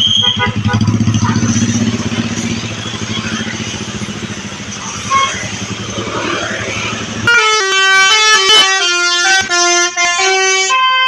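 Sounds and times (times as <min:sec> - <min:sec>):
bus engine running: 0:00.0 - 0:10.3
bus horn melody: 0:00.0 - 0:11.0.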